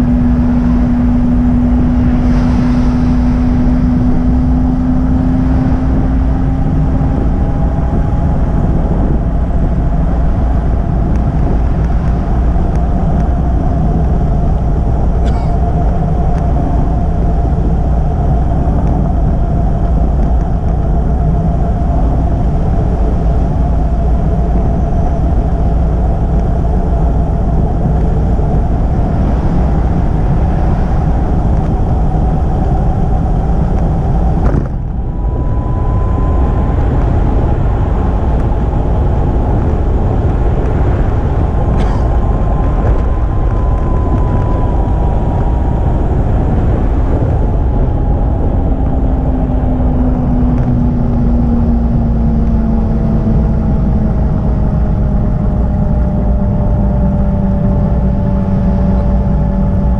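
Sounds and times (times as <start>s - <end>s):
road noise: 0.0s - 59.9s
thin steady whine: 0.0s - 59.9s
wind rush: 0.0s - 59.9s.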